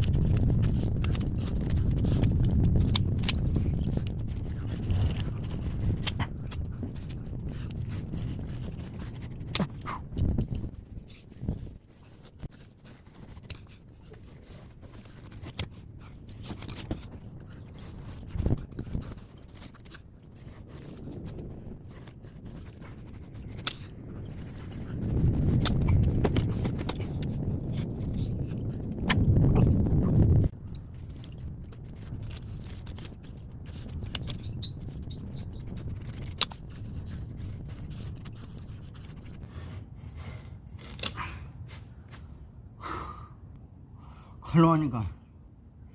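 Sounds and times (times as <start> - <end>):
metal fins scraping and crunching: 0.0 - 42.4.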